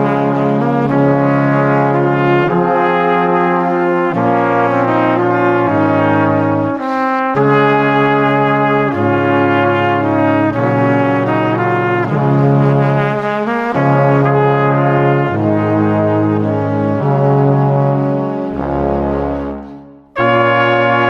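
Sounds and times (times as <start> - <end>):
slow brass-like chords: 0.0 - 21.0.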